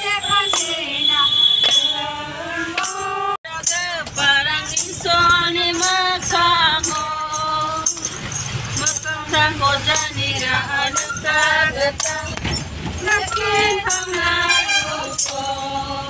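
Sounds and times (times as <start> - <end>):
tambourine jingling: 0.0 - 16.0
women singing together: 0.0 - 16.0.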